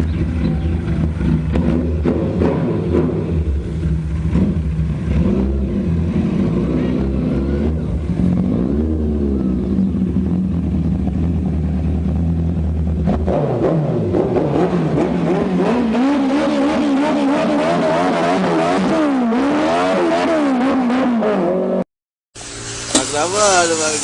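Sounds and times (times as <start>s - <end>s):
vehicle engine revving: 0.0s - 21.8s.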